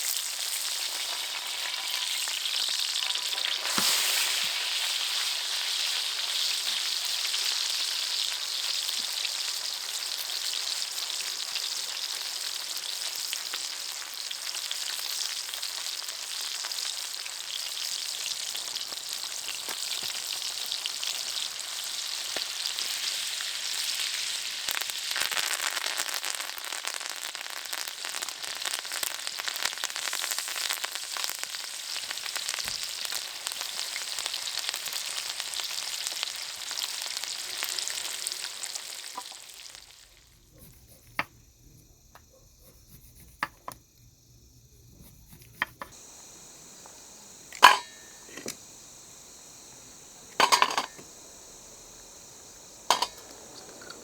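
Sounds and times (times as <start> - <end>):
food sizzling in a pan: 0.0 - 41.6, 45.0 - 54.0.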